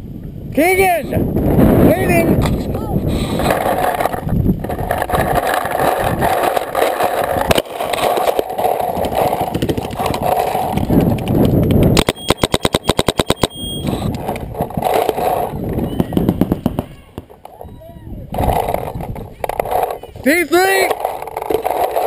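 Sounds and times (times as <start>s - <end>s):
outdoor background noise: 0.0s - 22.0s
wind on camera: 0.0s - 22.0s
paintball marker rapid firing: 3.4s - 17.6s, 18.3s - 22.0s.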